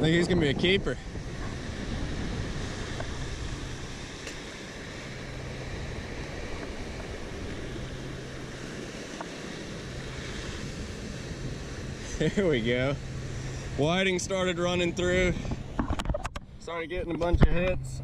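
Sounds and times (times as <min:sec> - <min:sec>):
small surf breaking: 0:00.0 - 0:16.6
wind buffeting microphone: 0:00.0 - 0:18.0.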